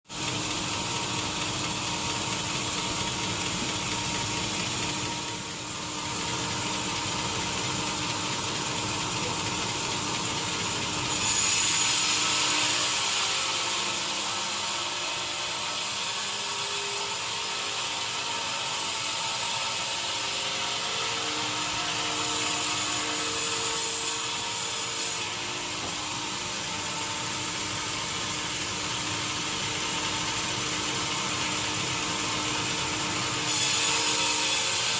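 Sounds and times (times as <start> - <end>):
saw cutting wood: 0.1 - 34.9
sawmill machinery clattering: 0.1 - 34.9.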